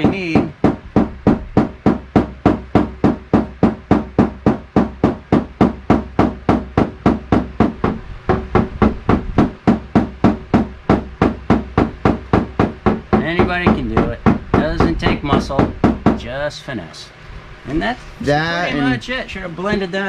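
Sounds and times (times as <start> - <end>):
hammer tapping on metal: 0.0 - 16.3.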